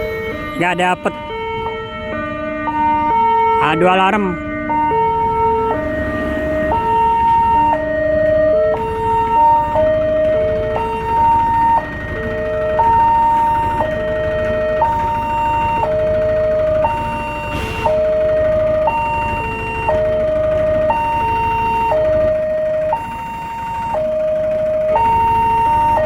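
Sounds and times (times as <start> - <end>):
level crossing warning alarms: 0.0 - 26.0.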